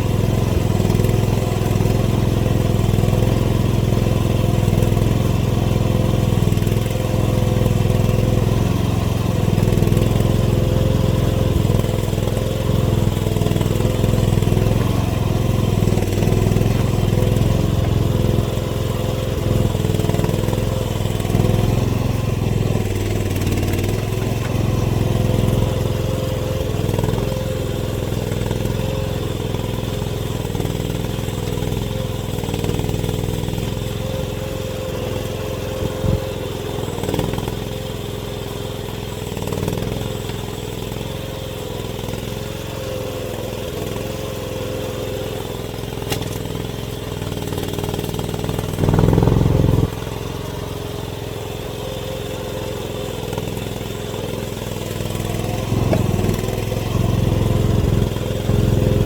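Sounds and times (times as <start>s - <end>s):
excavator engine running: 0.0s - 44.2s, 44.8s - 59.0s.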